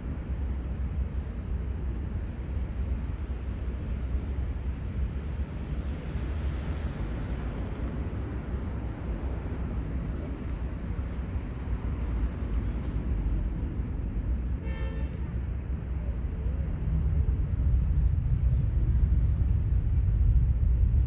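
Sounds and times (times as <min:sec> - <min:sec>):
distant engines rumbling: 0:00.0 - 0:21.0.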